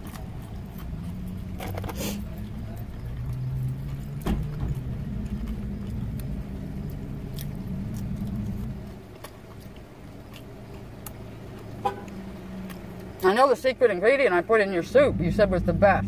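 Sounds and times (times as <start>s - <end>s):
close-up chewing: 0.0s - 13.7s
low hum inside car: 0.0s - 16.0s.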